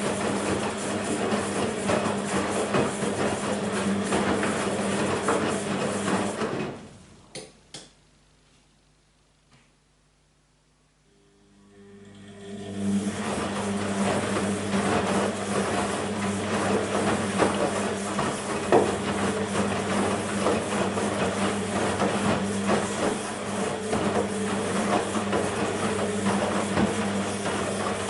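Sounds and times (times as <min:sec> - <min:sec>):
washing machine humming: 0:00.0 - 0:07.8, 0:11.0 - 0:28.0.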